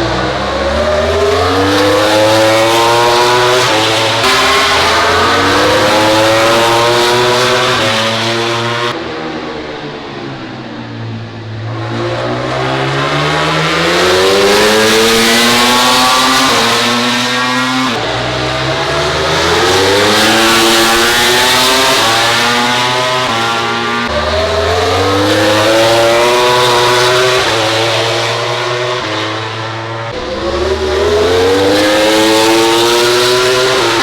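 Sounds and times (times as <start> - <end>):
racing motorcycle engines revving: 0.0 - 34.0.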